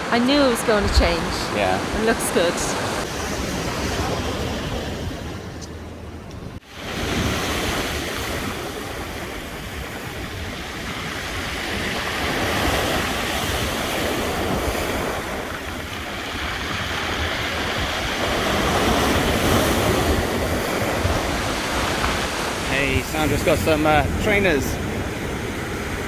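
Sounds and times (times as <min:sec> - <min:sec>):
sea surf breaking on shore: 0:00.0 - 0:05.6, 0:06.6 - 0:26.0
wind buffeting microphone: 0:00.0 - 0:26.0.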